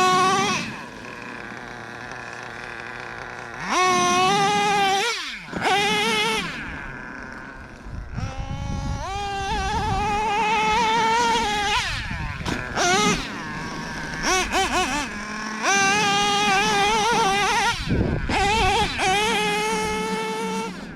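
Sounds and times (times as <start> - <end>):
model engine revving high-pitched: 0.0 - 20.9.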